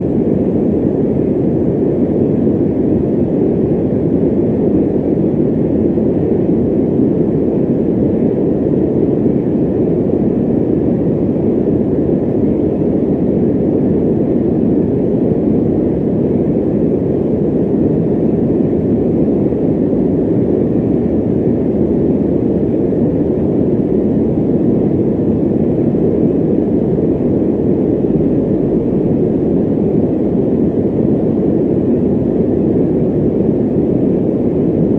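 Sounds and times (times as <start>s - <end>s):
electric fan running: 0.0s - 34.9s.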